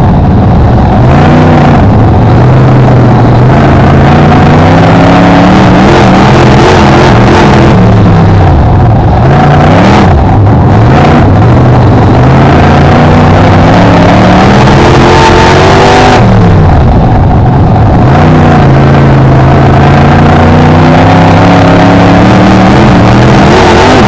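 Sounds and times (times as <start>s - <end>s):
racing car engine: 0.0s - 24.0s.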